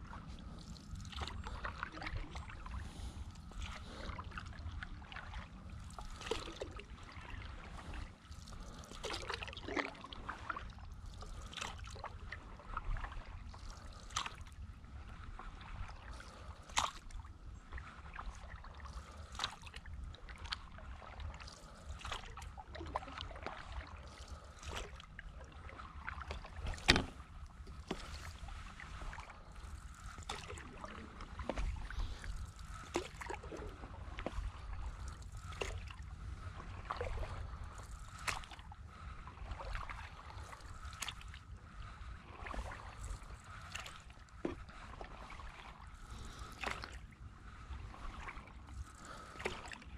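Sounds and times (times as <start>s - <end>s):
paddle pulling through water: 0.0s - 49.9s
small splashes and drips: 0.0s - 49.9s.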